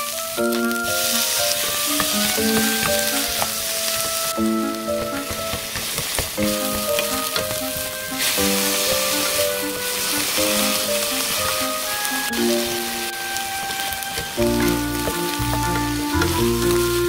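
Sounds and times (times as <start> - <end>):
light background melody: 0.0 - 17.0
food sizzling in a hot pan: 0.2 - 17.0.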